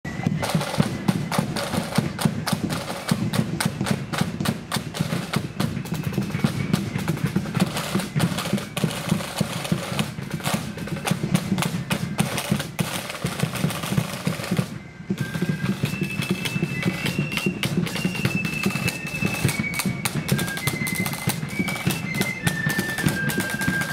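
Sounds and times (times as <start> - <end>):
snare drums playing fast beat: 0.1 - 23.9.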